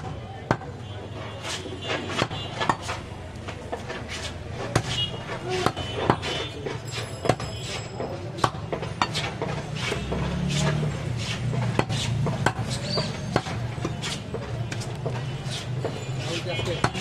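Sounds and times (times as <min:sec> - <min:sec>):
knife chopping on wooden block: 0:00.4 - 0:00.8, 0:01.4 - 0:16.0.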